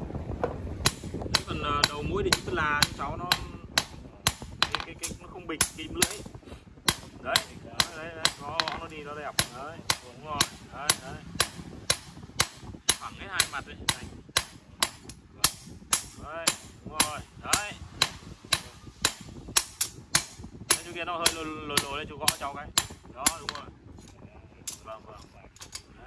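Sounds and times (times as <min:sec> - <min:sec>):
hammer striking steel on anvil: 0:00.8 - 0:06.3, 0:06.9 - 0:23.6.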